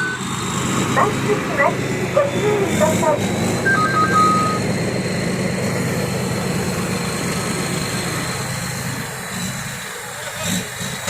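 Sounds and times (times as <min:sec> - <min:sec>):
large diesel engine running: 0:00.0 - 0:11.0.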